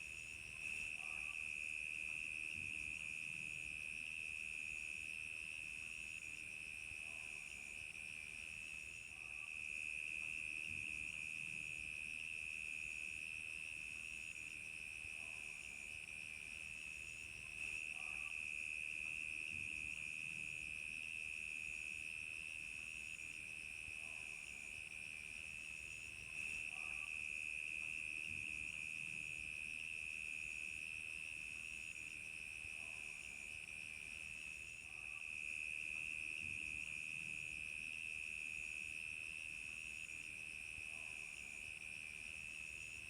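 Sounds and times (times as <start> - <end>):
crickets chirping: 0.1 - 43.0.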